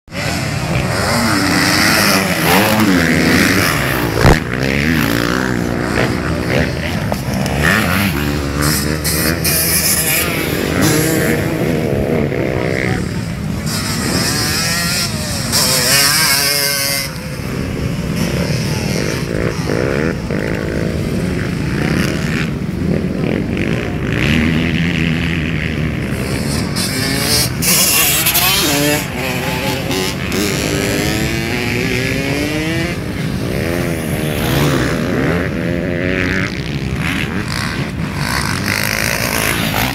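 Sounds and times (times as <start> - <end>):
motocross bike engines revving: 0.1 - 39.9.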